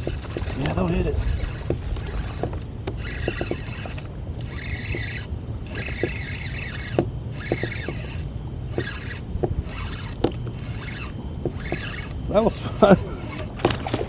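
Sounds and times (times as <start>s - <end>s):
small knocks: 0.0s - 0.8s, 1.4s - 12.2s, 13.4s - 14.0s
fishing reel whirring: 0.0s - 14.0s
wind and water rumble: 0.0s - 14.0s.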